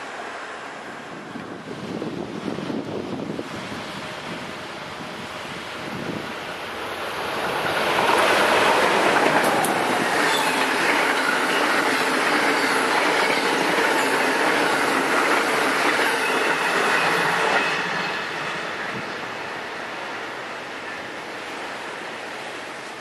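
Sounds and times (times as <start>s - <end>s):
train wheels rushing on rails: 0.0s - 23.0s.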